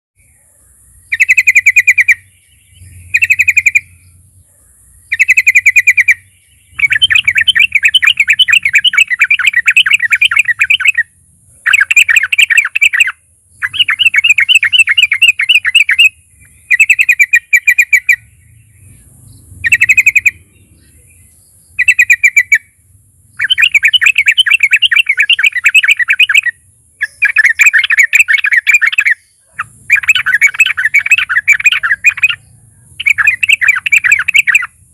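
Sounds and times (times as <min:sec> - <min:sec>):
bulbul chattering song: 0:00.2 - 0:34.9.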